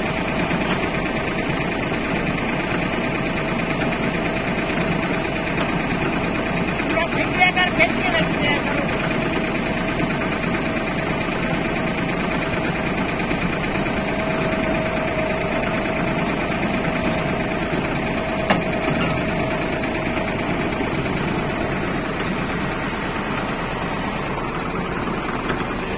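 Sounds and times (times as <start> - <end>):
baler machine drone: 0.0 - 25.9.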